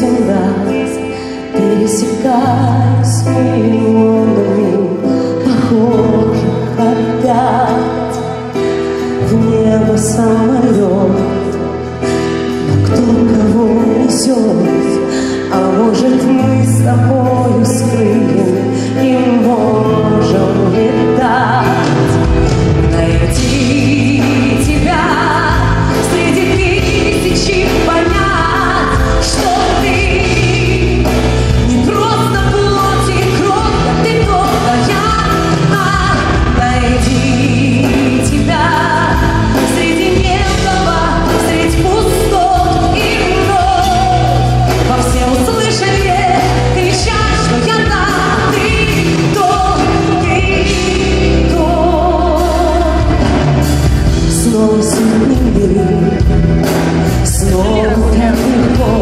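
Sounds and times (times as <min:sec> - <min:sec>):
woman singing with vibrato: 0:00.0 - 0:59.0
band of bass and drums: 0:05.5 - 0:59.0.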